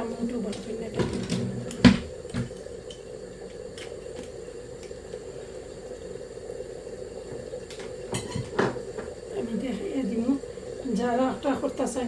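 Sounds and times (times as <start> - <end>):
pot bubbling on stove: 0.0 - 12.0.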